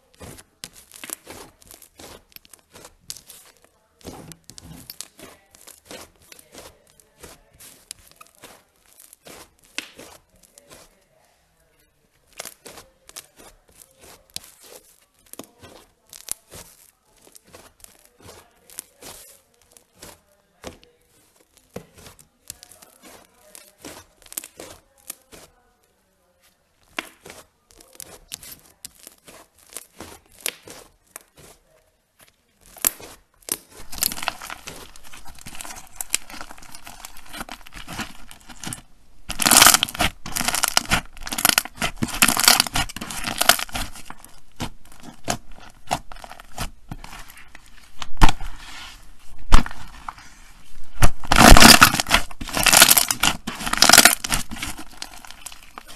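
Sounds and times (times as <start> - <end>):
slime crackling and popping: 0.0 - 11.1, 12.2 - 25.6, 26.8 - 55.9.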